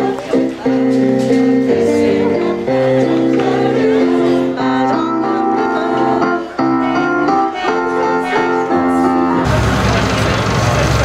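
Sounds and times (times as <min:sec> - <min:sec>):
choir singing in unison: 0:00.0 - 0:09.5
keyboard accompaniment: 0:00.0 - 0:11.0.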